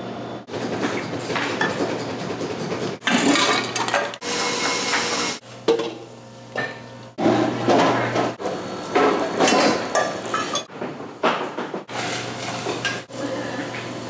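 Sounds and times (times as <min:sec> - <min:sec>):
utensils and dishes clattering: 0:00.5 - 0:06.0, 0:06.6 - 0:14.0.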